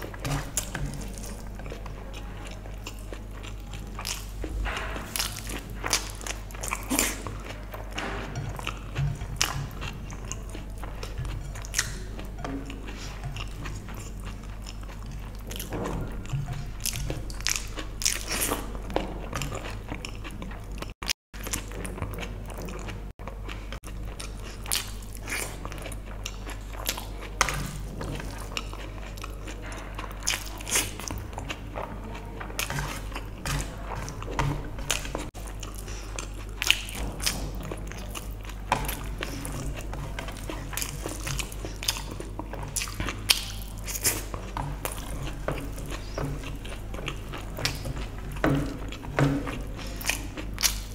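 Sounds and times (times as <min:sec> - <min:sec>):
chewing and mouth sounds: 0:00.0 - 0:50.9
steady low hum: 0:00.0 - 0:50.9.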